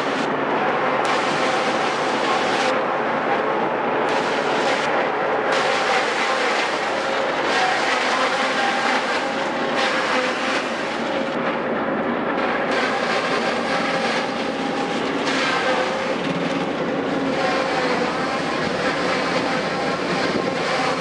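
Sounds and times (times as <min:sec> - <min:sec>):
forage harvester and tractor running: 0:00.0 - 0:21.0.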